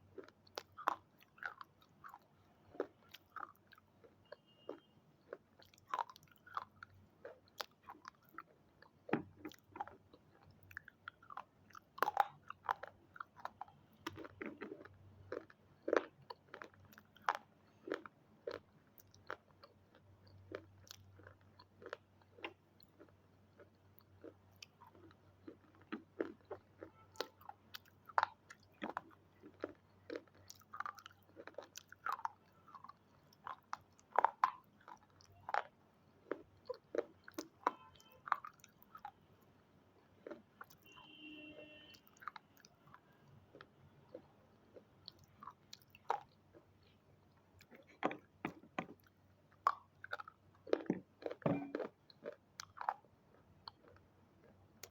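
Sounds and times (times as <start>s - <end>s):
person chewing crunchy snacks: 0.0s - 39.2s, 40.0s - 41.0s, 42.0s - 54.9s.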